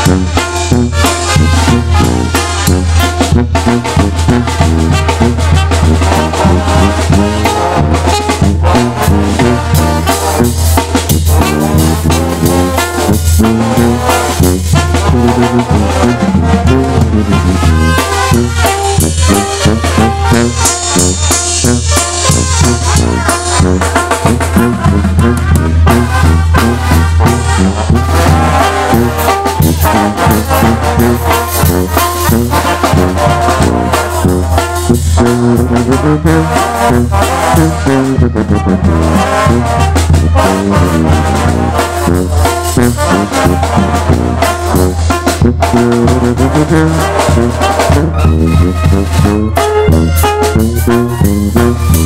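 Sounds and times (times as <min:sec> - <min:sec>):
drums and cymbal beat: 0:00.0 - 0:52.0
trumpets and trombones: 0:00.0 - 0:52.0.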